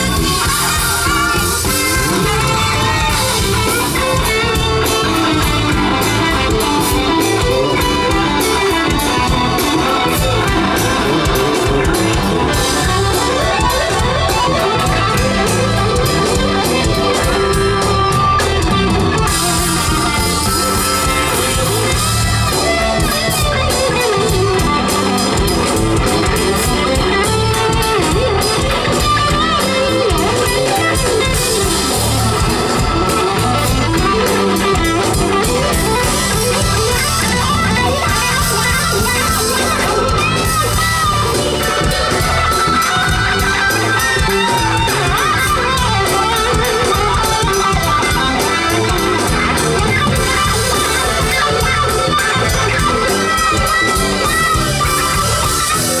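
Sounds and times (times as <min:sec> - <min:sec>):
electric guitar solo: 0:00.0 - 0:56.0
jazz fusion band playing: 0:00.0 - 0:56.0.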